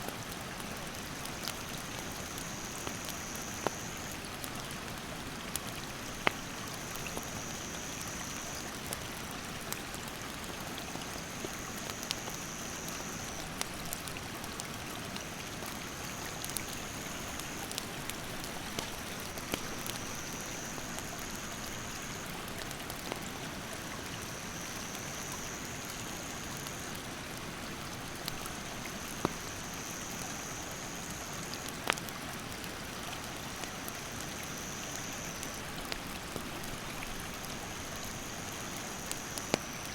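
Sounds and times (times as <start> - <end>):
campfire pops and crackles: 0.1 - 23.4, 28.1 - 30.4, 31.1 - 39.9.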